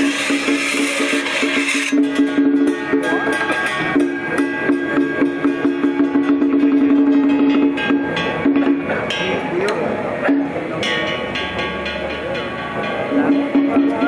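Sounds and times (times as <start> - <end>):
steady percussion strokes: 0.0 - 14.0.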